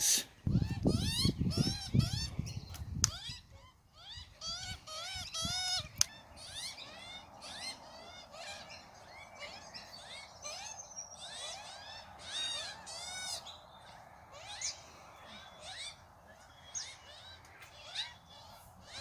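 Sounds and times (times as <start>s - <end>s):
magpies calling: 0.0s - 19.0s.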